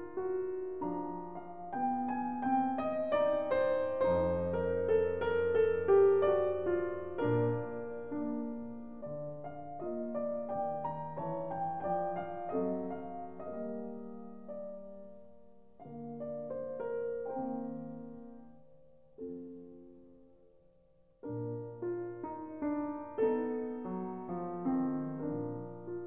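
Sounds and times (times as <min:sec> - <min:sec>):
slow gentle piano music: 0:00.0 - 0:26.0.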